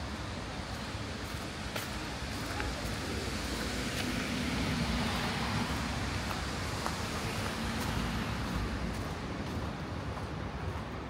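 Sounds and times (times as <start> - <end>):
outdoor traffic noise: 0.0 - 11.0.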